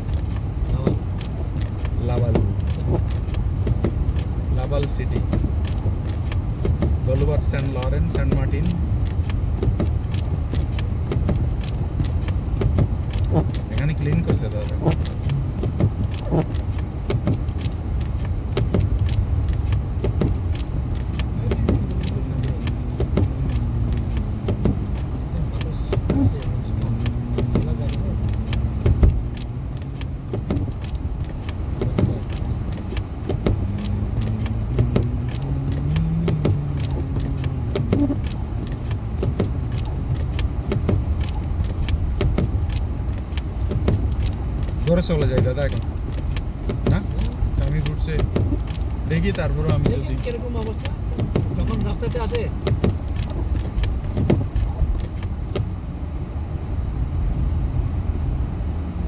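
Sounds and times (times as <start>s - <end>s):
truck engine and road rumble: 0.0s - 59.0s
sharp clicks and knocks: 0.1s - 55.8s.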